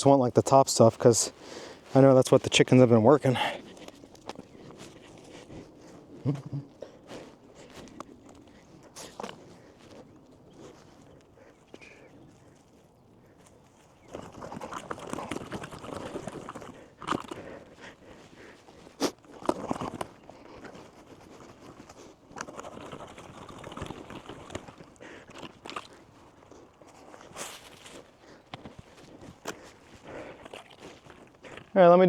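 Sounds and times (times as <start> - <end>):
digging in dry leaves and soil: 0.0 - 32.0.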